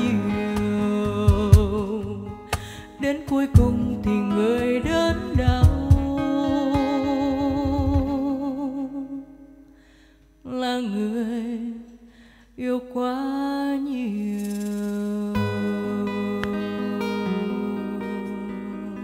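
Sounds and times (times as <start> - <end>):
woman singing with vibrato: 0.0 - 9.5, 10.4 - 12.0, 12.6 - 19.0
acoustic guitar: 0.0 - 19.0.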